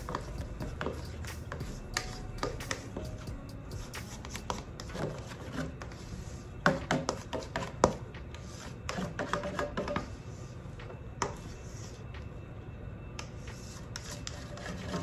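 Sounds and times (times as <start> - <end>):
spatula scraping metal bowl: 0.0 - 10.5, 13.2 - 15.0
quiet music: 0.0 - 15.0.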